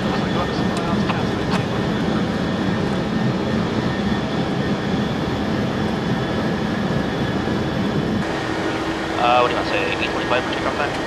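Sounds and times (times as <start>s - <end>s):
jet aircraft engines humming: 0.0s - 11.0s.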